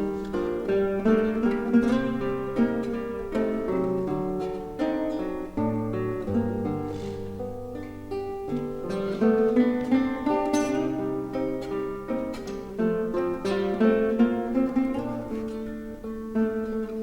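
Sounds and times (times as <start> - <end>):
classical guitar music: 0.0 - 17.0.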